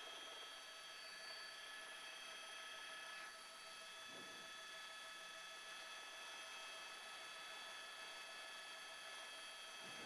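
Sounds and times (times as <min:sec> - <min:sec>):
high-pitched electronic whine: 0:00.0 - 0:10.0.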